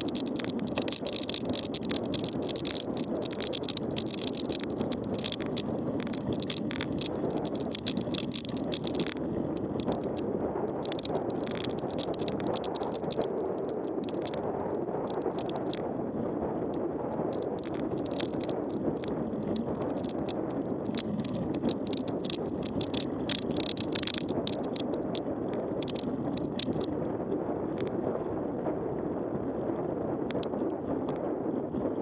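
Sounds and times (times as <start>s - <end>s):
bike clicks and rattles: 0.0s - 15.9s, 16.7s - 27.0s.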